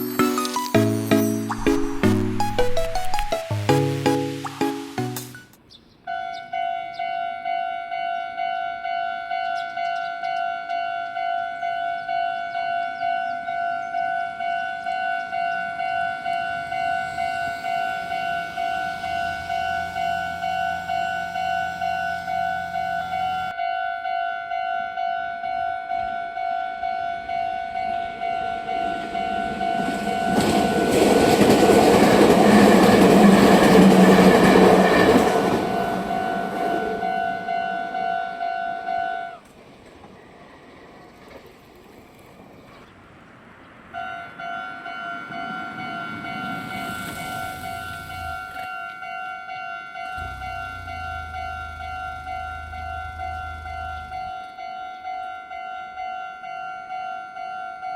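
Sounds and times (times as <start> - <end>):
level crossing warning bell: 0.0 - 5.5, 6.1 - 39.4, 44.0 - 57.9
train passing: 0.0 - 5.5, 10.7 - 57.5.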